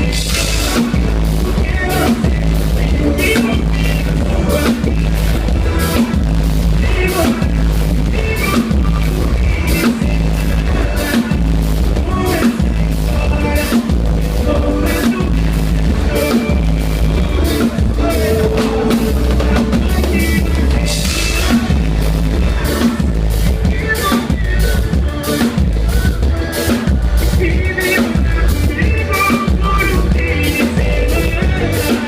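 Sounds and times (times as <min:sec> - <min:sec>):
band playing instrumental: 0:00.0 - 0:32.0
deep bass line: 0:00.0 - 0:32.0
drum kit beat: 0:00.0 - 0:32.0.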